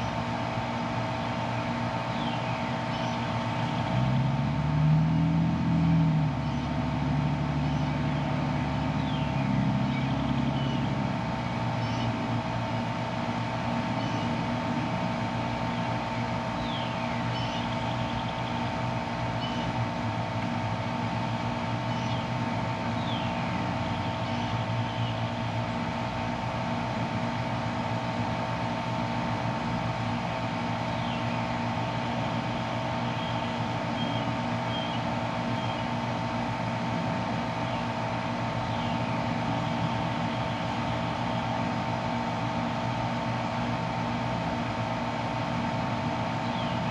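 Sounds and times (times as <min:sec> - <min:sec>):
low engine-like sound: 0:00.0 - 0:46.9
steady mechanical hum: 0:00.0 - 0:46.9.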